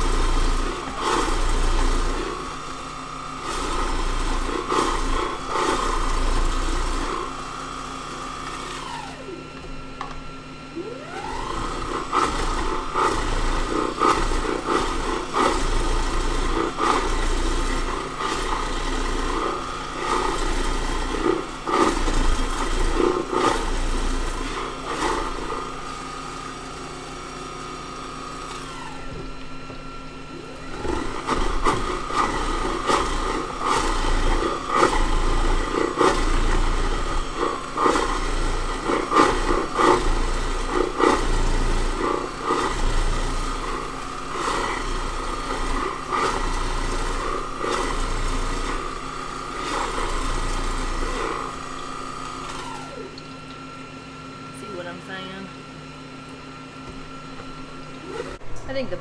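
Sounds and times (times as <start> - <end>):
vegetables being shredded: 0.0 - 53.8
machine motor humming: 0.0 - 59.0.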